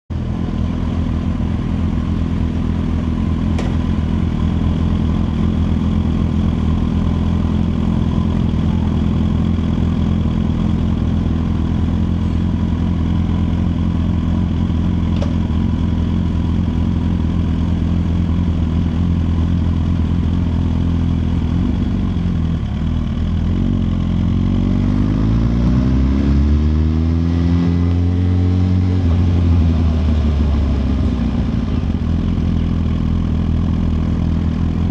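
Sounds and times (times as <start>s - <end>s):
motorcycle engine idling: 0.1s - 24.6s, 29.0s - 34.9s.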